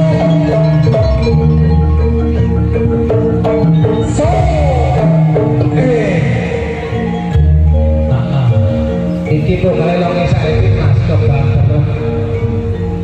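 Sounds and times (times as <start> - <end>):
gamelan music: 0.0 - 13.0.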